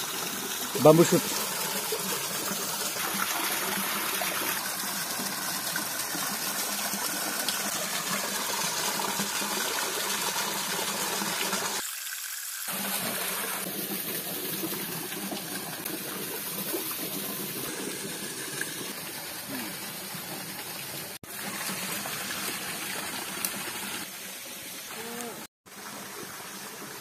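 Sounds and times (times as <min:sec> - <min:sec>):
stream running over rocks: 0:00.0 - 0:27.0.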